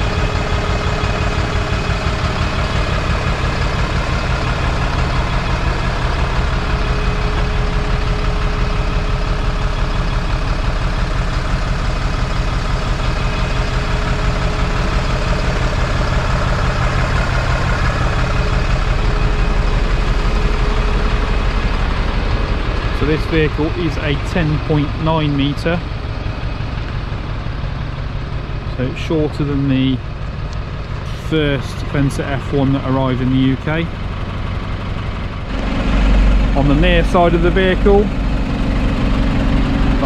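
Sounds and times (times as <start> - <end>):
diesel bus engine idling: 0.0 - 40.0.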